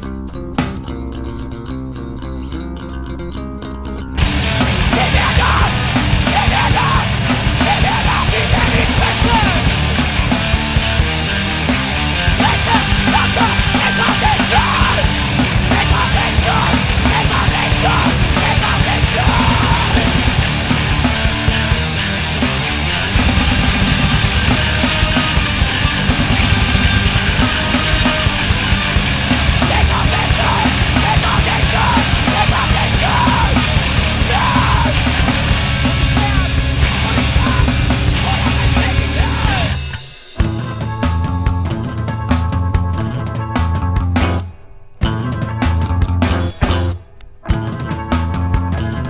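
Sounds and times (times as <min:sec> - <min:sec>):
bent guitar notes: 0:00.0 - 0:49.0
heavy rock band playing: 0:00.0 - 0:49.0
fast dense drumming: 0:04.2 - 0:48.9.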